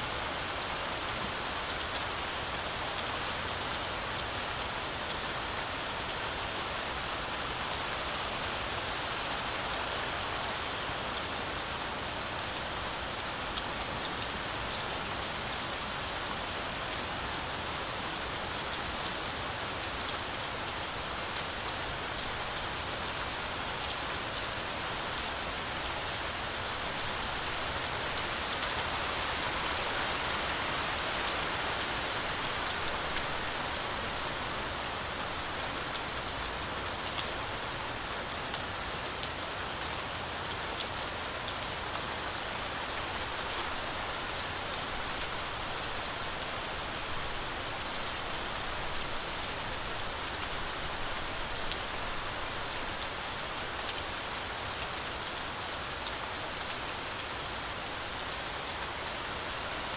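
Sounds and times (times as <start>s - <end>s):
heavy rain in a forest: 0.0s - 59.9s.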